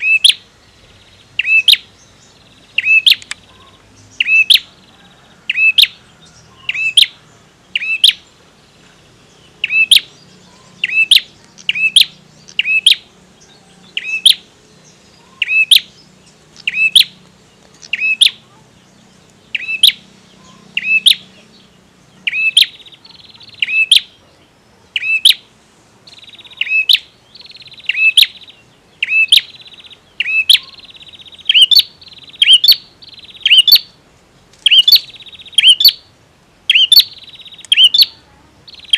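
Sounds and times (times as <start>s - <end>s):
buzzy bird trill: 0.0s - 24.2s, 26.1s - 34.0s, 34.6s - 36.1s, 36.7s - 38.9s
bird chirping: 0.0s - 38.9s.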